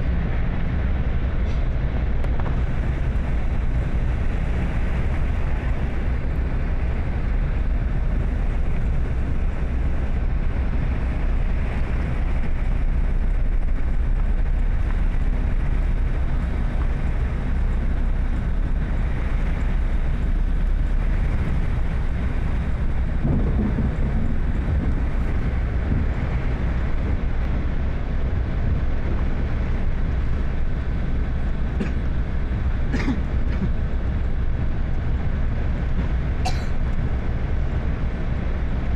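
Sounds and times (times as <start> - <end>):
vehicle road noise in rain: 0.0 - 38.9.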